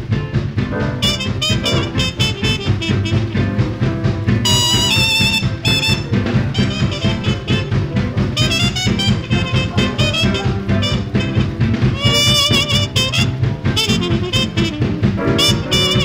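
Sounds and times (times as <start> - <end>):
jazz rhythm section with drums: 0.0 - 16.0
swing jazz trumpet lead: 0.0 - 16.0.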